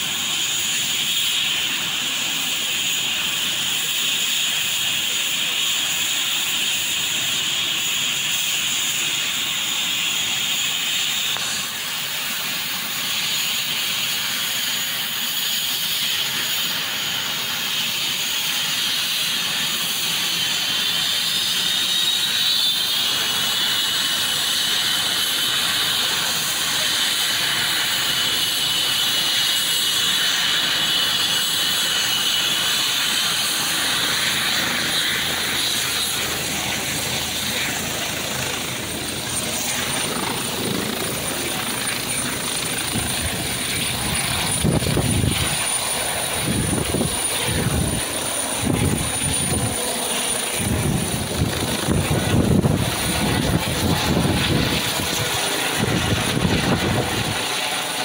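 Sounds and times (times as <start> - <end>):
helicopter turbine whine: 0.0 - 58.0
rushing hiss: 0.0 - 58.0.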